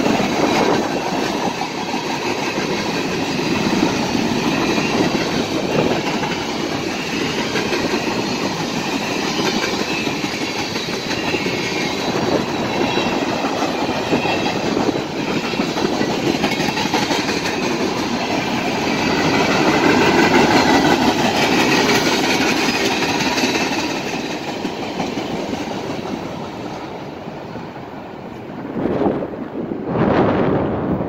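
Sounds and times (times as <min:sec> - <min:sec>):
freight train wheels clattering: 0:00.0 - 0:29.5.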